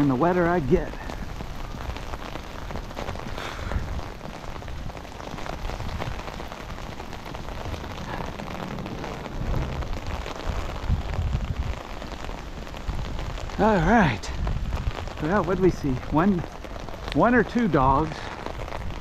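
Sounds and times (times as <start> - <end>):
rain on wet pavement: 0.0 - 19.0
wind rumble on microphone: 0.0 - 19.0.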